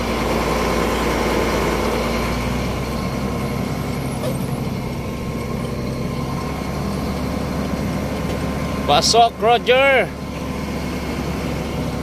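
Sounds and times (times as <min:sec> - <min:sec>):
truck engine running inside cab: 0:00.0 - 0:12.0.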